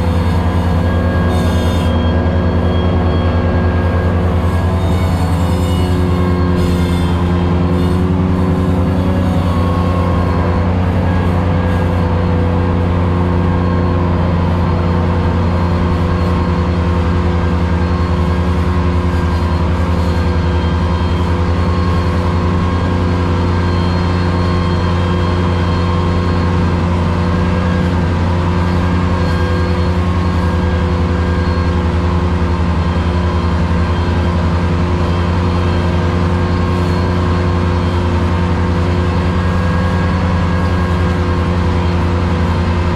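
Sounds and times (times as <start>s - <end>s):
mower cutting tall grass: 0.0s - 42.9s
tractor running under load: 0.0s - 42.9s.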